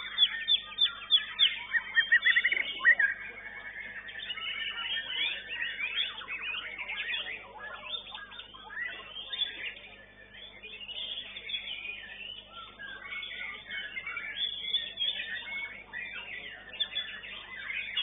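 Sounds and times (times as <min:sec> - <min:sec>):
songbird singing whistled phrases: 0:00.0 - 0:18.0.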